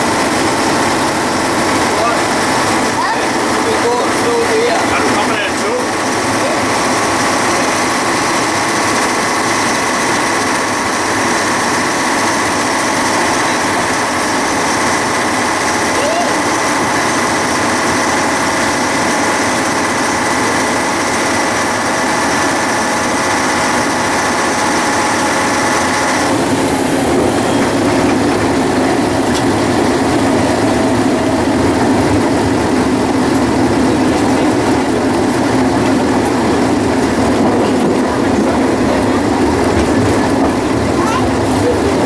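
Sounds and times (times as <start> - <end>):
railcar engine running: 0.0 - 42.0
wheels rumbling on rails: 0.0 - 42.0.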